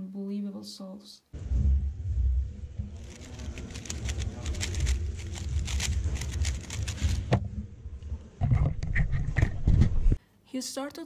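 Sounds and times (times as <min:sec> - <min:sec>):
low room rumble: 0:01.3 - 0:10.2.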